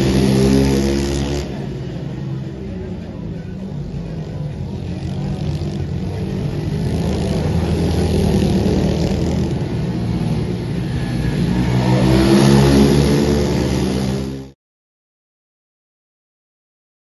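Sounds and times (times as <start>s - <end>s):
pit bike engine running hard: 0.0s - 14.6s.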